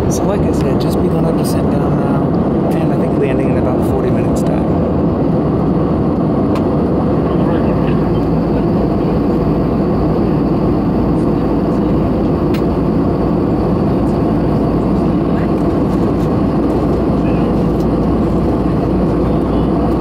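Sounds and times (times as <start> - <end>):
airliner cabin engine and airflow noise: 0.0 - 20.0.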